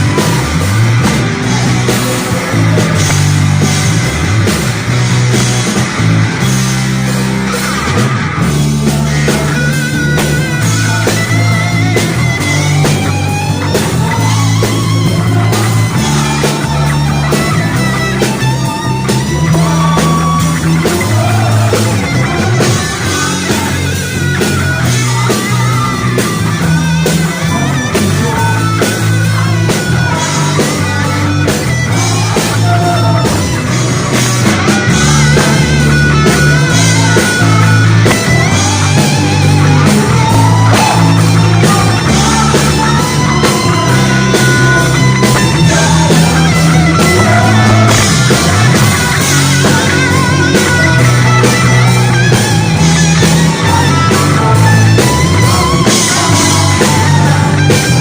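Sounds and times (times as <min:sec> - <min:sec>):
bass line: 0:00.0 - 0:58.0
drums: 0:00.0 - 0:58.0
rock guitar: 0:00.0 - 0:58.0.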